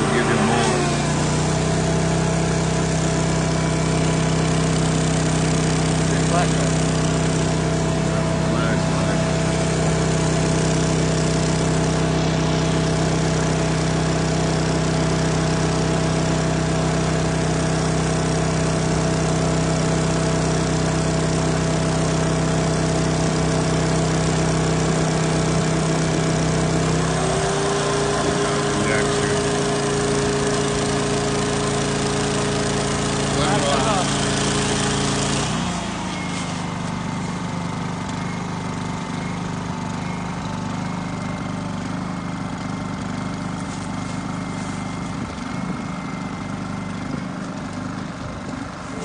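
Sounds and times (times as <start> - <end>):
shop vacuum sucking: 0.0 - 49.0
small petrol engine running: 0.0 - 49.0.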